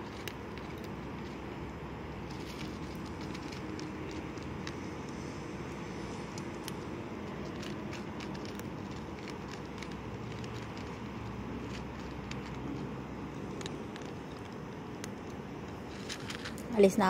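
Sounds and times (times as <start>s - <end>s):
cat crunching kibble: 0.0s - 16.7s.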